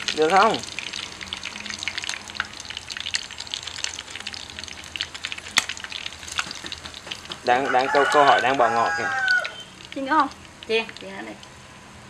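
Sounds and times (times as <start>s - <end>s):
hot oil crackling in a pan: 0.0s - 11.8s.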